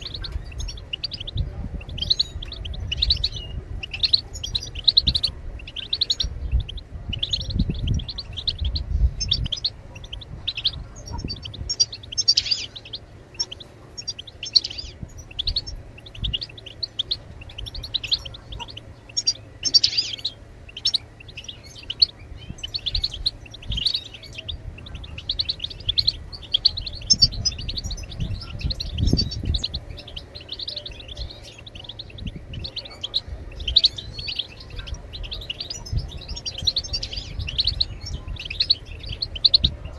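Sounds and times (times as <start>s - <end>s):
finches twittering: 0.0s - 39.9s
low rumble: 0.0s - 39.9s.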